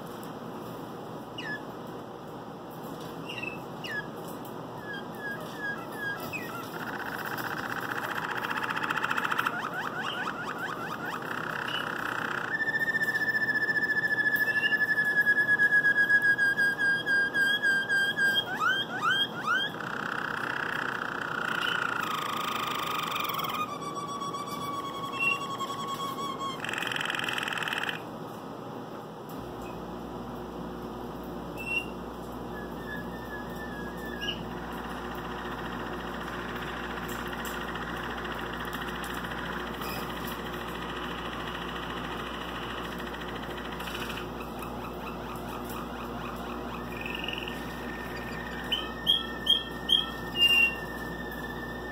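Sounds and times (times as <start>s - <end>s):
canary singing: 1.3s - 1.7s, 3.2s - 28.0s, 31.5s - 51.9s.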